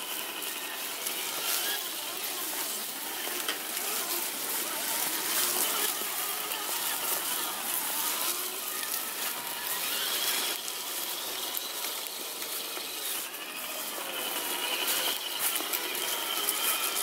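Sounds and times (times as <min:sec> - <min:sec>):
faint high drivetrain whine: 0:00.0 - 0:17.0
tyres rustling dry leaves: 0:00.0 - 0:17.0.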